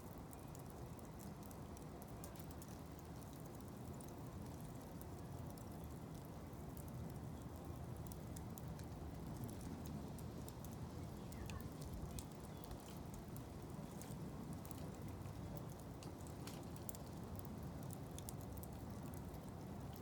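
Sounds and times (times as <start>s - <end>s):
wood fire crackling and popping: 0.1s - 20.0s.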